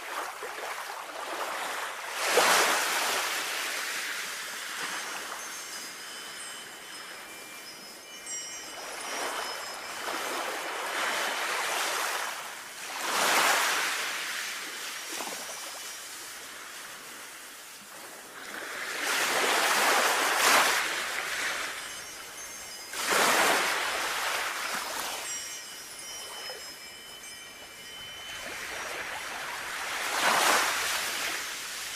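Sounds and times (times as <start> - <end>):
sea waves washing in: 0.0 - 31.9.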